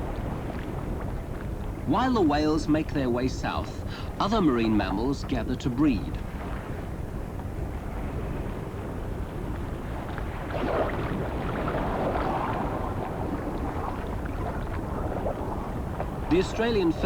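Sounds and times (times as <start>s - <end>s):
surf on rocky coast: 0.0s - 17.0s
wind: 0.0s - 17.0s.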